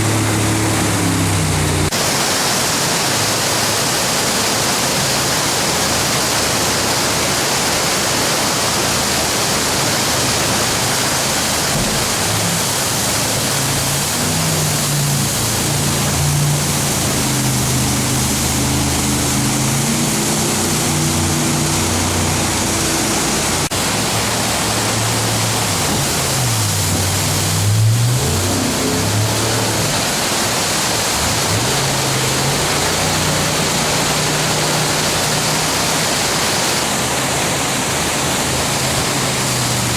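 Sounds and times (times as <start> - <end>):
jet boat engine under throttle: 0.0 - 39.9
rush of rapids: 0.0 - 39.9
wind: 0.0 - 39.9.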